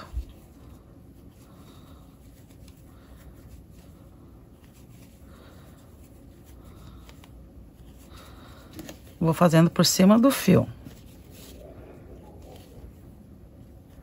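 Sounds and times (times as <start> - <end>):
low steady hum: 0.0 - 14.0
yarn rustling: 0.0 - 14.0.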